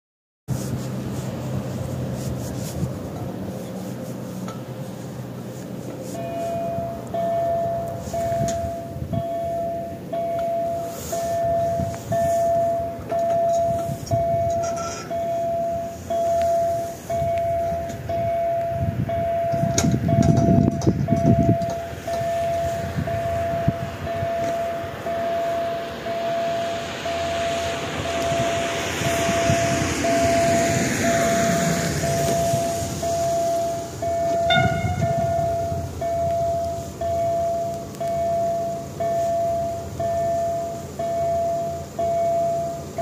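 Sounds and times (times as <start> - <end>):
low rumble: 0.5 - 40.6
crossing warning tone: 0.6 - 43.0.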